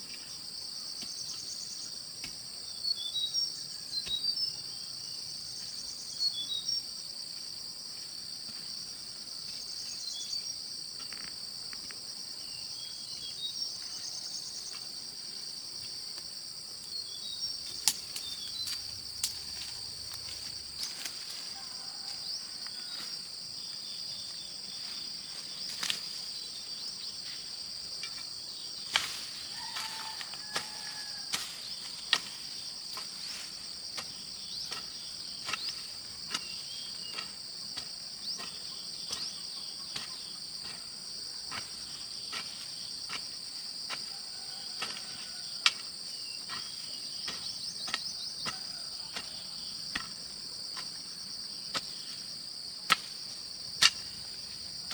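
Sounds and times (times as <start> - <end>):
insect chorus drone: 0.0 - 54.9.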